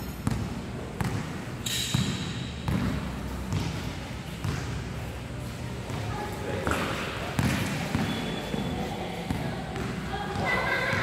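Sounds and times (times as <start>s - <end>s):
basketball bouncing on court: 0.1s - 5.1s, 5.8s - 11.0s.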